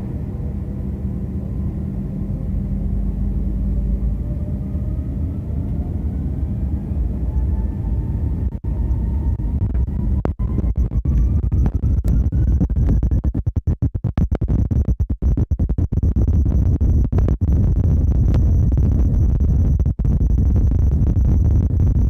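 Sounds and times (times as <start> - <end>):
jet engines rumbling and whining: 0.0 - 22.0.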